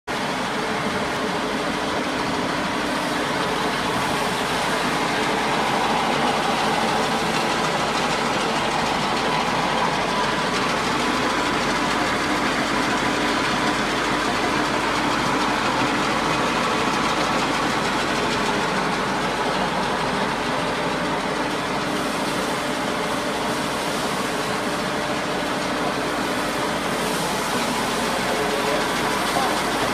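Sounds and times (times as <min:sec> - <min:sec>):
pellet mill running: 0:00.1 - 0:29.9.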